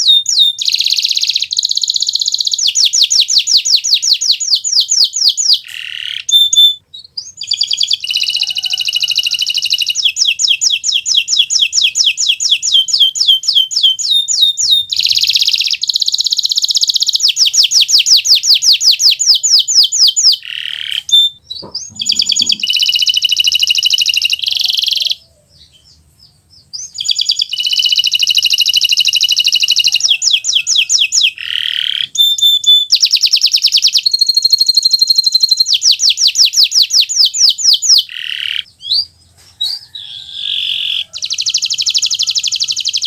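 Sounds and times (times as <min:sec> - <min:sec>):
canary singing trills: 0:00.0 - 0:43.0.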